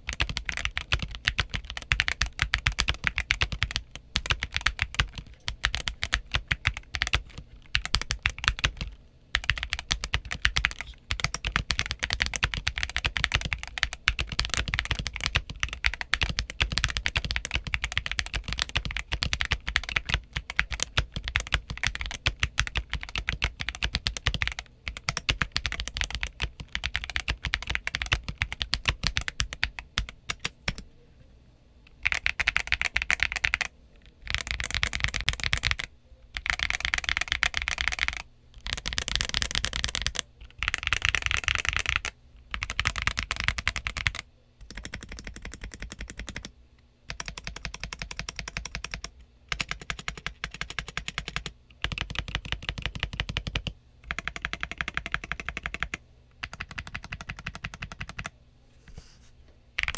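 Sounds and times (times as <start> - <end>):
mechanical keyboard typing: 0.0 - 30.8, 32.0 - 46.5, 47.1 - 58.3.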